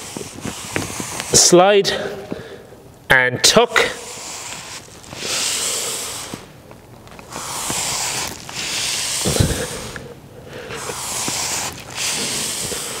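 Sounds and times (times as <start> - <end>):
furniture slider swishing: 0.0 - 1.6, 4.1 - 13.0.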